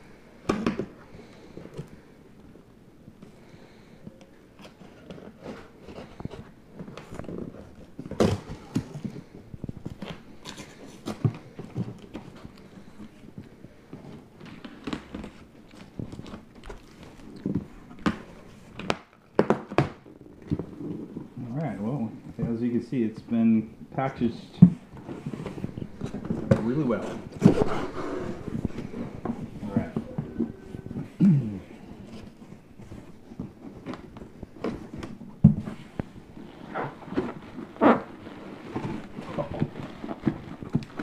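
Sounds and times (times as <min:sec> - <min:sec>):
cardboard crackling and rustling: 0:04.5 - 0:23.0, 0:24.2 - 0:41.0.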